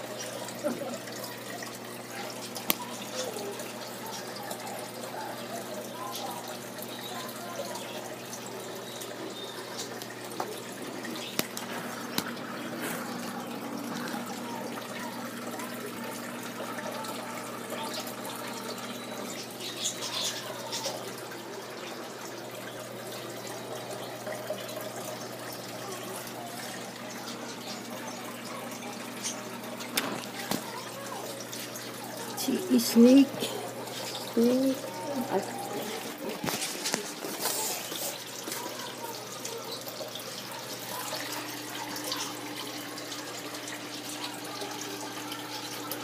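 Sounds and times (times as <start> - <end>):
aquarium water trickling: 0.0 - 46.0.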